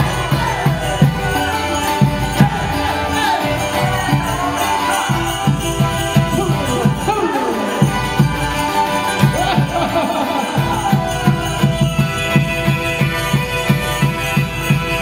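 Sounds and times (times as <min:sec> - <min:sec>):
folk band playing: 0:00.0 - 0:15.0
jingling bells: 0:00.0 - 0:15.0
steady drum beat: 0:00.0 - 0:15.0.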